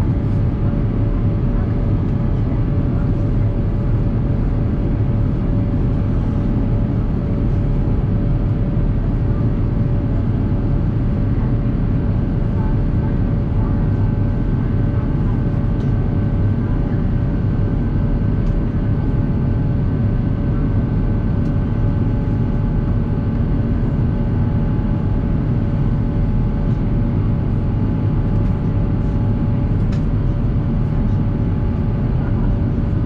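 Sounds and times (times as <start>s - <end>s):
airplane cabin engine roar: 0.0s - 33.0s.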